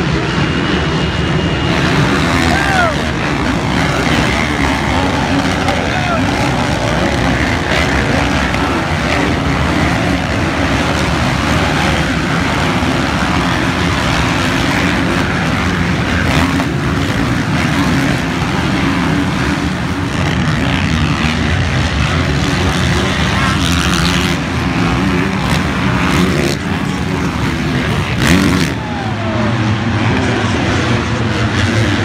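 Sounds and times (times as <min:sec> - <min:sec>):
motocross bike engines racing: 0:00.0 - 0:32.0.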